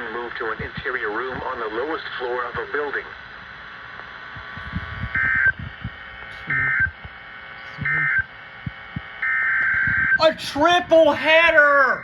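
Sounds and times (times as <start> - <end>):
radio digital data bursts: 0.0 - 11.0.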